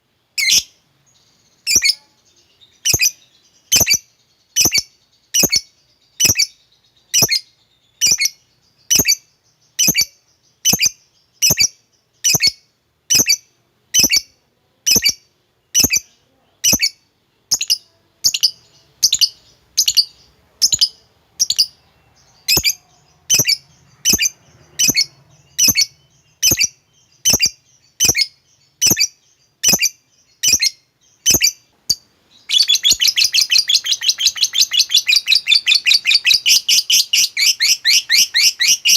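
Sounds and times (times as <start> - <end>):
lovebird chirping: 0.0 - 38.9
bird chattering trill: 0.4 - 0.8, 1.5 - 14.3, 14.9 - 38.9.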